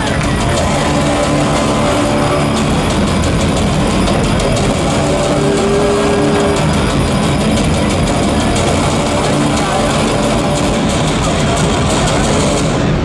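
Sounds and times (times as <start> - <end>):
held synth tones: 0.0 - 13.0
low rumble over loudspeakers: 0.0 - 13.0.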